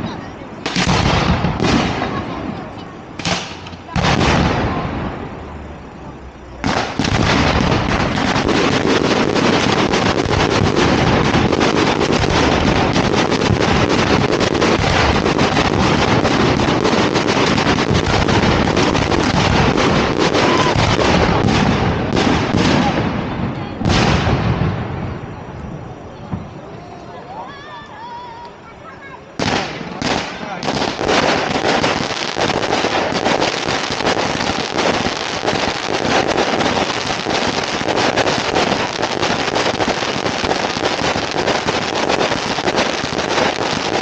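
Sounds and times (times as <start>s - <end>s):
firework shell bursts and crackling: 0.0s - 25.4s, 29.4s - 44.0s
firework bangs: 0.0s - 26.7s, 29.3s - 44.0s.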